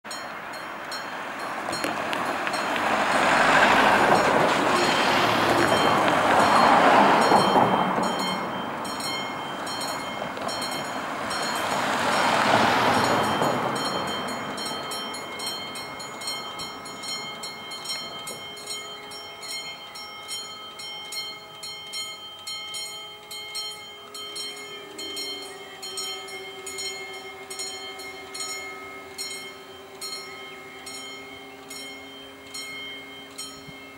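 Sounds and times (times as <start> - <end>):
level crossing bell ringing: 0.1 - 33.9
steady hum of barrier arms: 0.1 - 33.9
vehicles driving past: 0.1 - 33.9.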